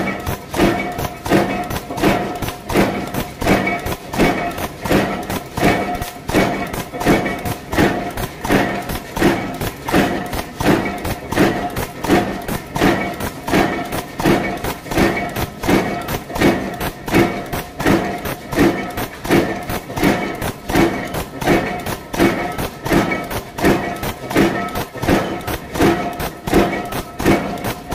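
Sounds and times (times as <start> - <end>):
power press thudding: 0.0 - 27.9
steady machine hum: 0.0 - 27.9.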